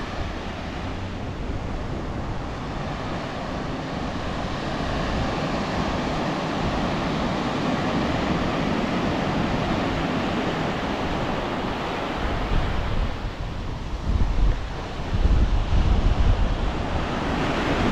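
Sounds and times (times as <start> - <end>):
surf on the beach: 0.0 - 17.9
wind rumble on microphone: 0.0 - 17.9.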